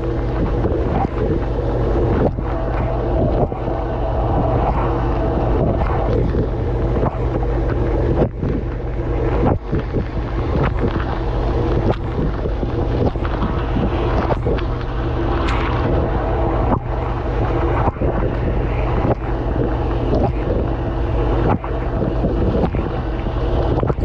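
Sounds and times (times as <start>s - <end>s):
pump motor hum: 0.0s - 24.0s.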